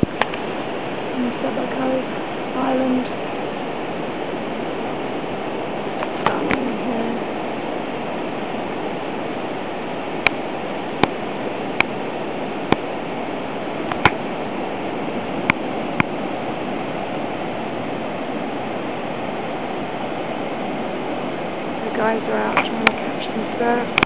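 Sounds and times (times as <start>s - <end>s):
ocean surf rushing: 0.0s - 24.0s.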